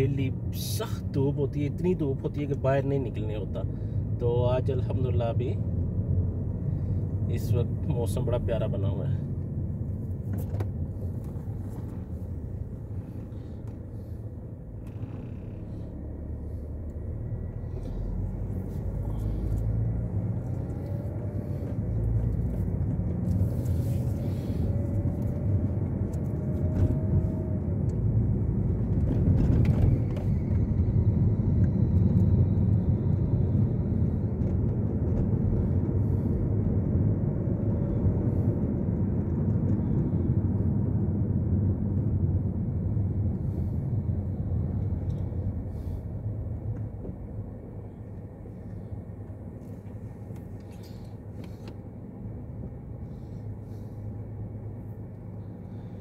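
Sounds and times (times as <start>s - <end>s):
car engine: 0.0s - 56.0s
road rumble: 0.0s - 56.0s.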